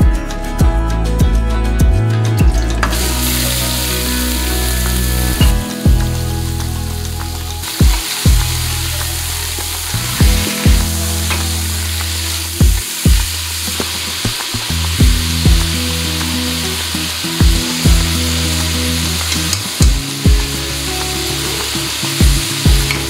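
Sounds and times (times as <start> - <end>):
background music with drum thumps: 0.0 - 3.6, 4.9 - 16.4, 17.4 - 18.3, 19.2 - 23.0
meat sizzling in hot oil: 2.9 - 23.0.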